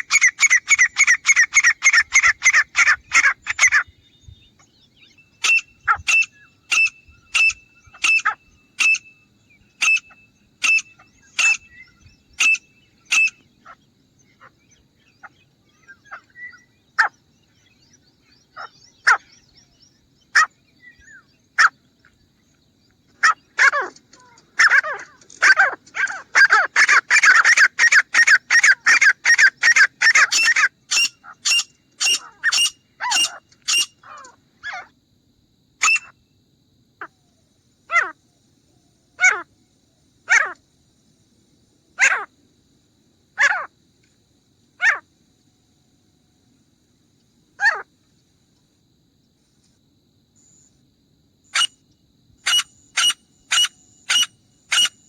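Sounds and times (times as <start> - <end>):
francolin calling: 0.0 - 34.9, 35.8 - 36.3, 37.0 - 40.6, 41.9 - 42.4, 43.4 - 43.8, 44.8 - 45.6, 47.6 - 47.9, 51.4 - 55.0.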